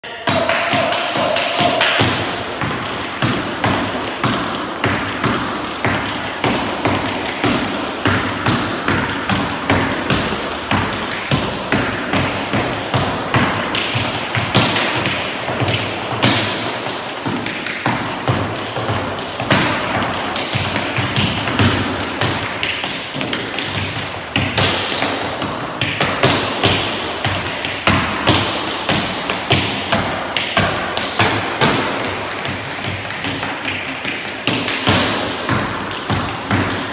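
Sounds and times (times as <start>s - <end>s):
tap shoes tapping: 0.3s - 36.9s.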